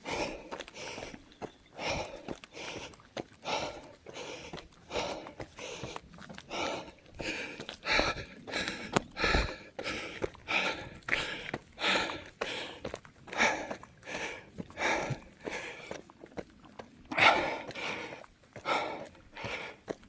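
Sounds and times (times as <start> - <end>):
runner breathing hard: 0.0 - 16.2, 17.1 - 20.0
footsteps on trail: 0.0 - 20.0.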